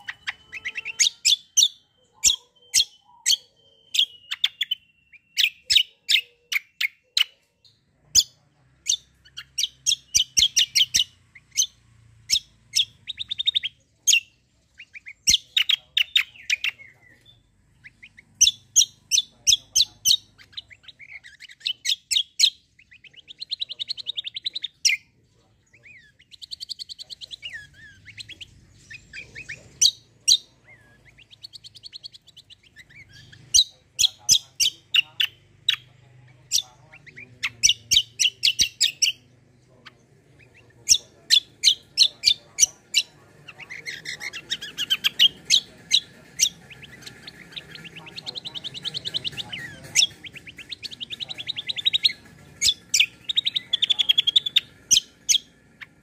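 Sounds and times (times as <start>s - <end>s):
songbird chirps and trills: 0.0s - 56.0s.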